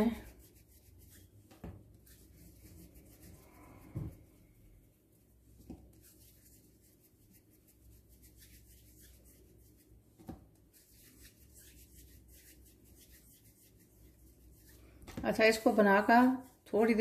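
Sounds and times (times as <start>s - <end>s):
palms rolling soft dough: 0.0s - 17.0s.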